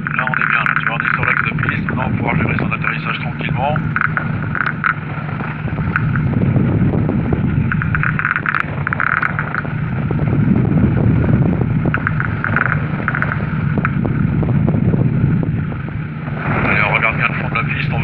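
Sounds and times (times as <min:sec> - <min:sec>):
light aircraft engine running: 0:00.0 - 0:18.0
wind rushing over microphone: 0:00.0 - 0:18.0.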